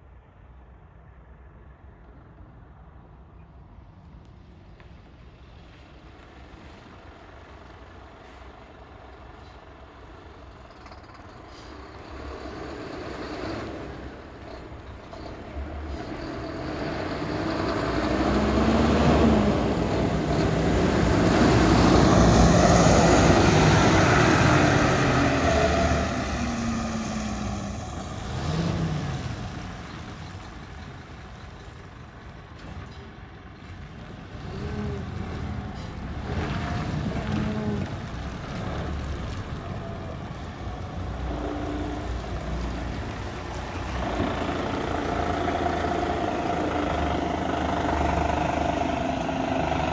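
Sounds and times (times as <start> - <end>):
diesel truck engine passing: 5.4 - 49.9.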